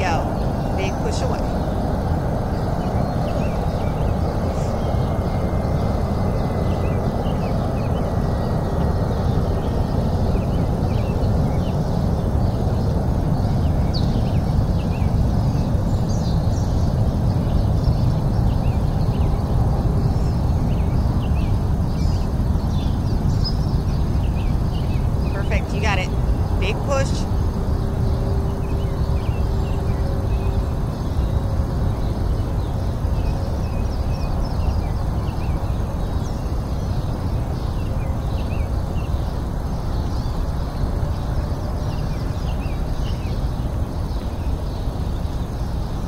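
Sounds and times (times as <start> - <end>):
loud steady rushing noise: 0.0 - 46.0.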